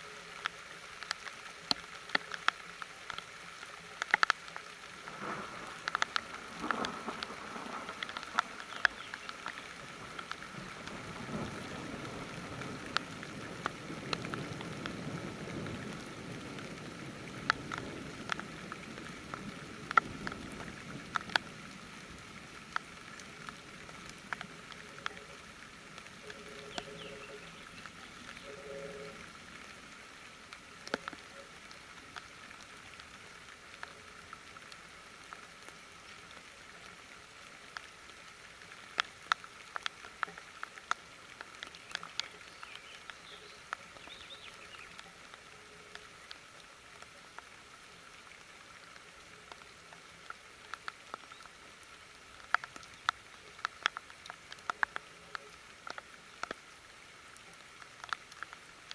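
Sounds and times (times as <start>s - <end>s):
raindrops tapping: 0.0s - 58.9s
steady rain falling: 0.0s - 58.9s.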